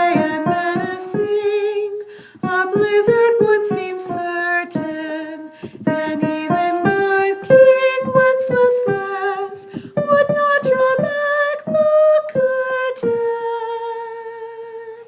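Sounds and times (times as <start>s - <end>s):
piano accompaniment: 0.0s - 15.0s
woman singing: 0.0s - 15.0s.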